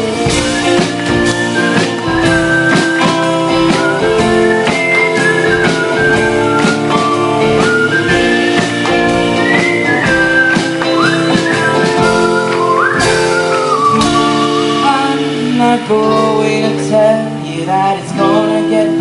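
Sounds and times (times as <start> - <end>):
drum beat: 0.0 - 16.9
rock band playing: 0.0 - 19.0
sliding lead guitar line: 0.0 - 19.0.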